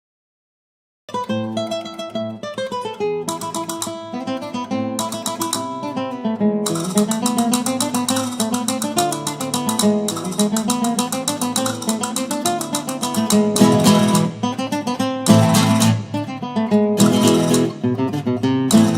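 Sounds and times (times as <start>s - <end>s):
flamenco acoustic guitar: 1.1s - 18.9s.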